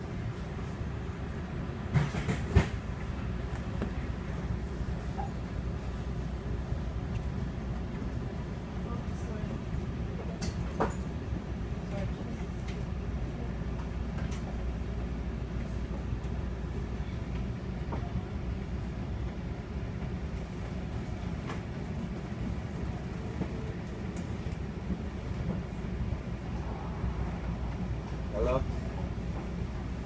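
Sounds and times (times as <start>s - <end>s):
train car low hum: 0.0s - 30.0s.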